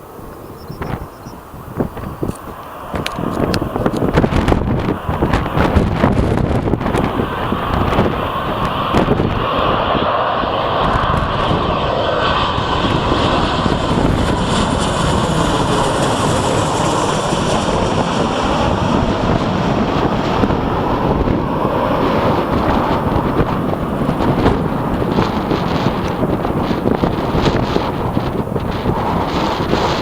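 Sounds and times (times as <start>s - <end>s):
jet engines roaring overhead: 0.0s - 30.0s.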